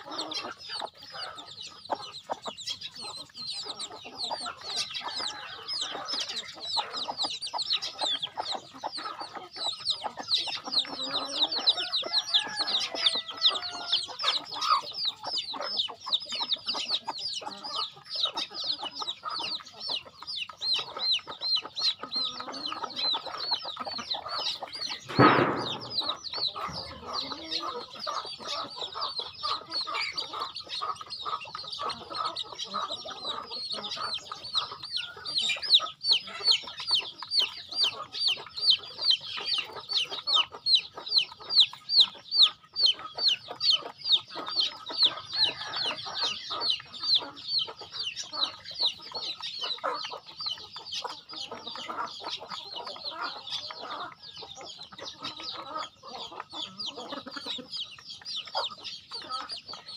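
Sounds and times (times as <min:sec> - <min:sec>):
chick peeping: 0:00.0 - 0:59.9
hens clucking softly: 0:00.0 - 0:59.9.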